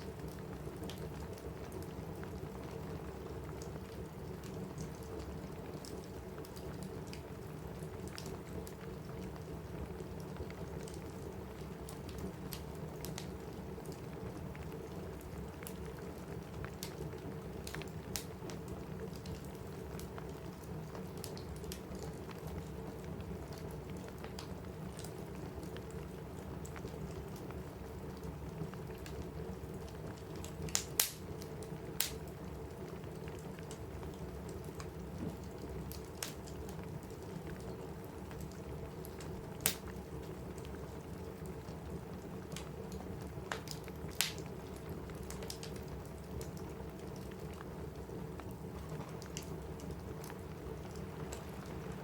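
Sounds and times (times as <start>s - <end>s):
steady rain on a roof: 0.0s - 52.0s
wood fire popping and crackling: 0.0s - 52.0s.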